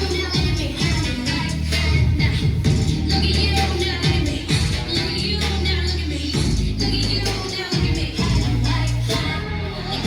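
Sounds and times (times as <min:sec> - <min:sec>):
music with sustained bass: 0:00.0 - 0:10.0.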